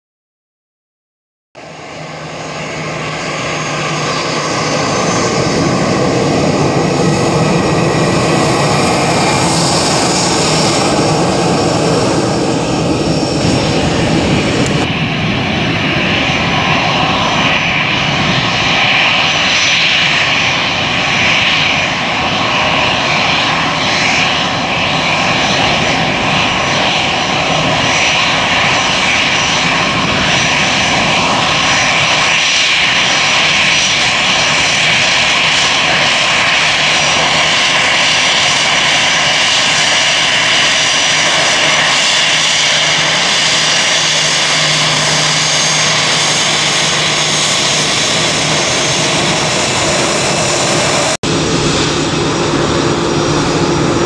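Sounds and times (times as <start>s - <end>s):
jet engines whining: 1.6s - 54.0s.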